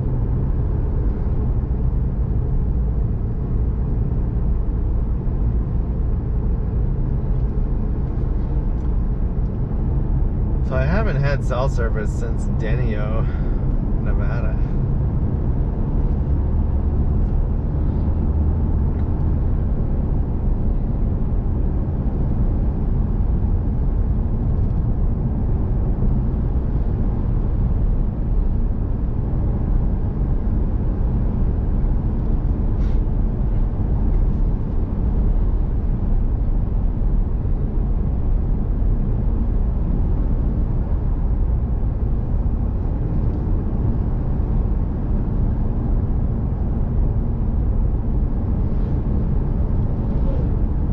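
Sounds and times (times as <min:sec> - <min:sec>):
vehicle engine and road rumble: 0:00.0 - 0:50.9.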